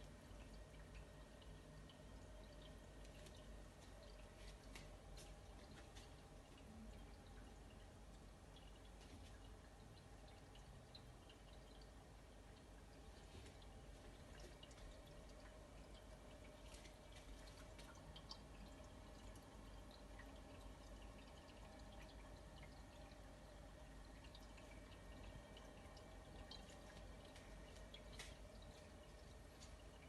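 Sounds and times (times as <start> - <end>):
electric fireplace humming: 0.0 - 30.0
faint drips and ticks: 0.0 - 30.0.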